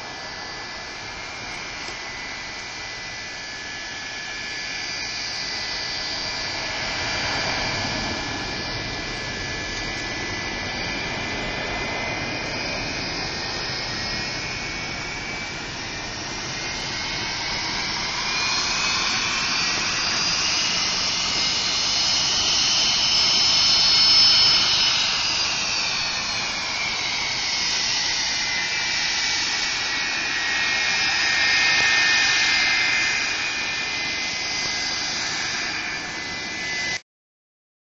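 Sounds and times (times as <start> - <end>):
jet engines whining: 0.0 - 37.0.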